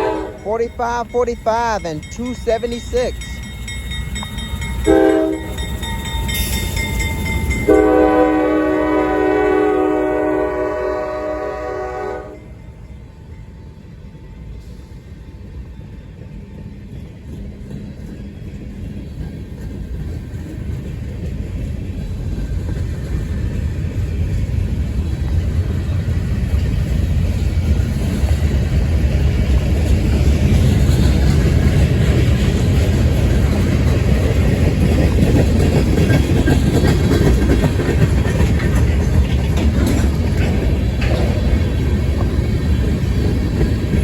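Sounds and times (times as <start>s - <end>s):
freight train rumble passing: 0.0s - 44.0s.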